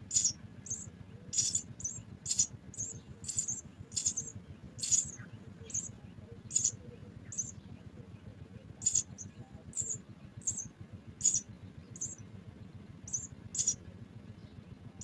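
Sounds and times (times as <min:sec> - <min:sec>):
small bird chirping: 0:00.0 - 0:12.3, 0:13.0 - 0:13.9
faint low hum: 0:00.0 - 0:15.0.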